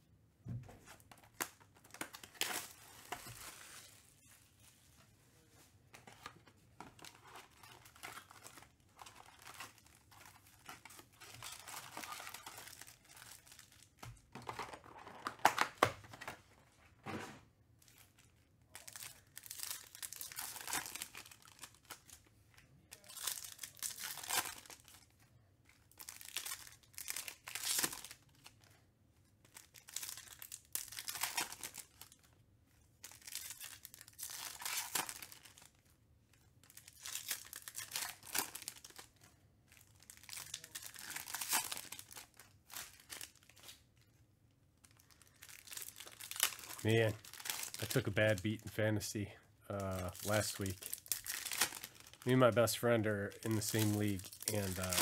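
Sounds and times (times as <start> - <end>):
wrappers torn and crinkled: 1.3 - 4.3, 6.9 - 16.2, 17.8 - 25.2, 25.8 - 28.7, 29.4 - 32.4, 33.0 - 44.1, 44.8 - 48.8, 49.7 - 55.0.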